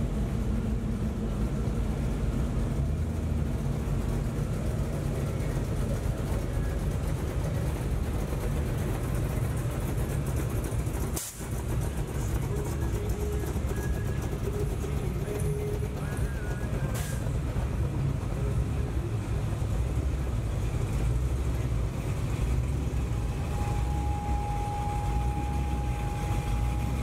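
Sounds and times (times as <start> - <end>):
truck engines rolling past: 0.0 - 27.0.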